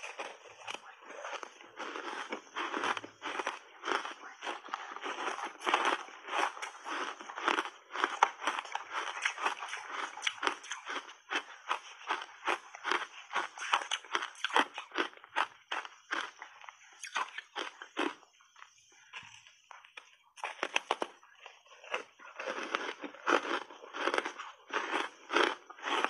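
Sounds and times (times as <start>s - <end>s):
ice crunching between teeth: 0.0s - 18.2s, 19.8s - 26.0s.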